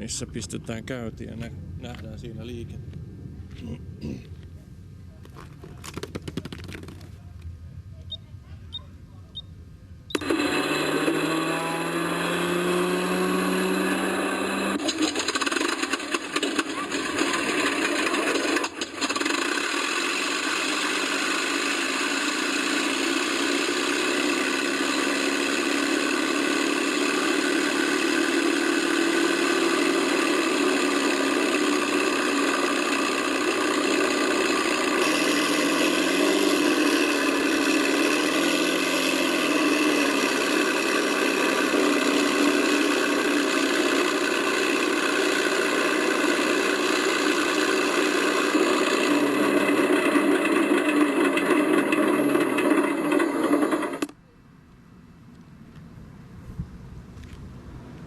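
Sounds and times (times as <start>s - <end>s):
simulated aircraft engine idling: 0.0s - 11.8s, 14.7s - 58.0s.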